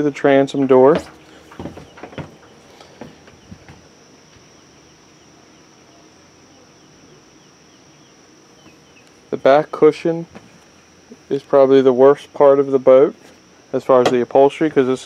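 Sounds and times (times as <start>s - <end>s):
insects trilling drone: 0.0s - 15.0s.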